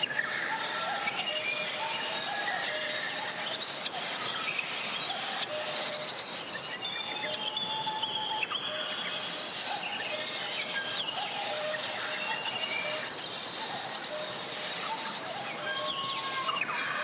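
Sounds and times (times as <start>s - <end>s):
birds chirping and whistling: 0.0s - 17.0s.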